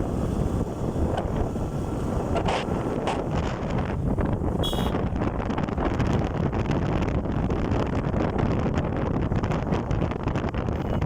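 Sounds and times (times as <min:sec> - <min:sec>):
motorcycle engine and road rumble: 0:00.0 - 0:11.0
wind buffeting microphone: 0:00.0 - 0:11.0.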